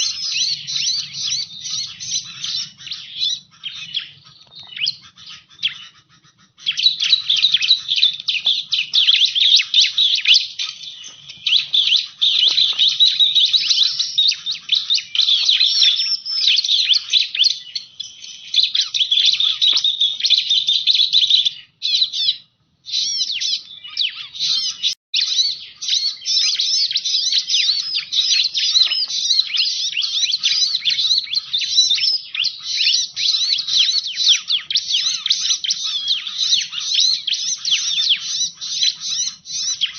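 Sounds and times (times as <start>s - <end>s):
bird song rapid high chirps: 0.0s - 39.9s.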